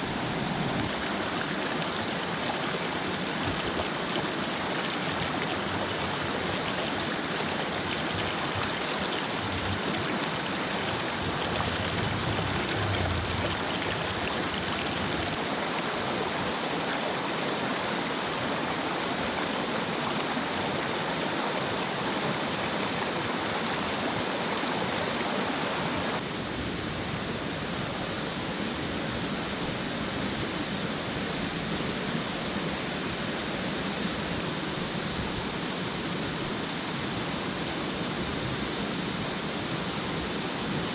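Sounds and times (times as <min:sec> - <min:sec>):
stream rushing over stones: 0:00.0 - 0:40.9.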